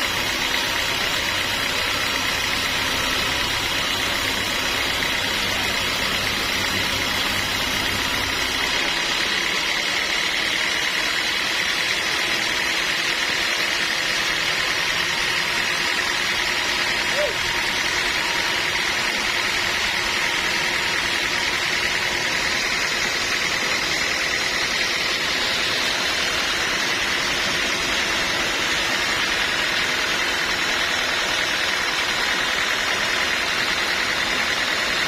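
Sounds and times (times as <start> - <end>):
sawmill machinery droning: 0.0 - 35.0.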